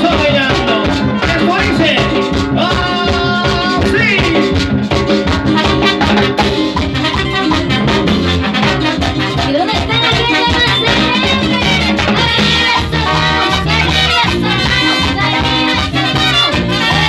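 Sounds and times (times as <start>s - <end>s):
band rhythm section: 0.0s - 17.0s
horn section playing: 0.0s - 17.0s.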